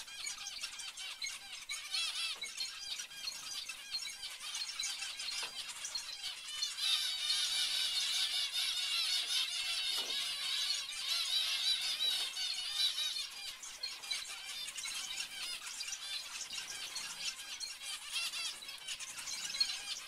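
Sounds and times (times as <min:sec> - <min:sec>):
finches chattering: 0:00.0 - 0:20.0.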